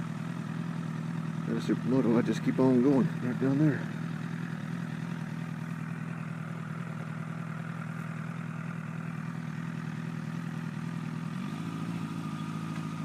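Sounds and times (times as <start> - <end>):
motorcycle engine running steadily: 0.0 - 13.0.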